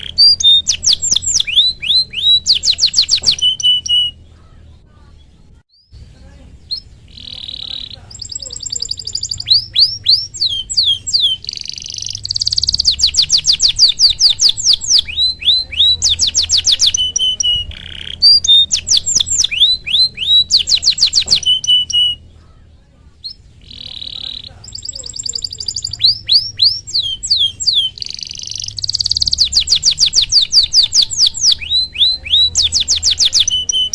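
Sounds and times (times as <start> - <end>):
canary singing trills: 0.0 - 33.9.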